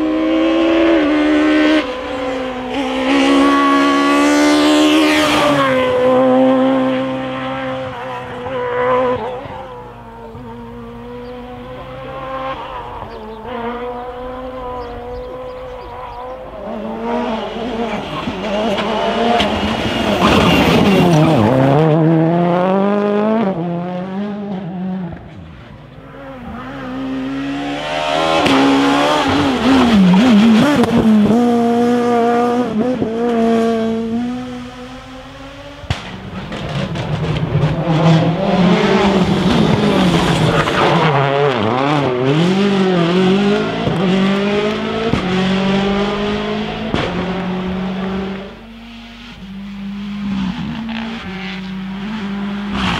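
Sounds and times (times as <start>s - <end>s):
rally cars revving past: 0.0s - 52.9s.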